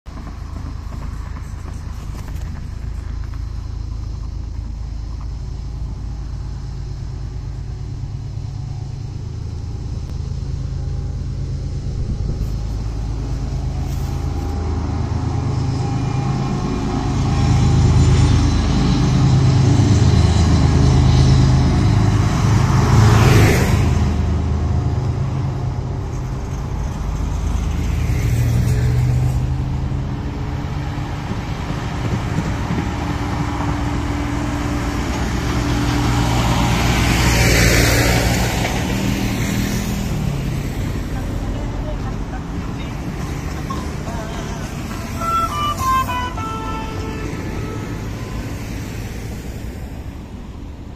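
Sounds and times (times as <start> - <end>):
road vehicles passing: 0.0 - 50.9
diesel locomotive engine drone: 0.1 - 50.9
vehicle whoosh: 0.2 - 50.9.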